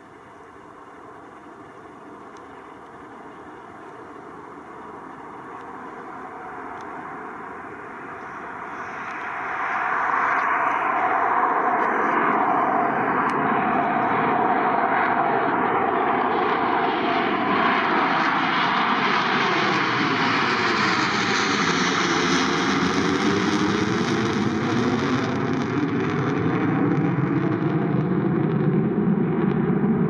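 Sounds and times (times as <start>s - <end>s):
military aircraft engines roaring: 0.0s - 30.0s.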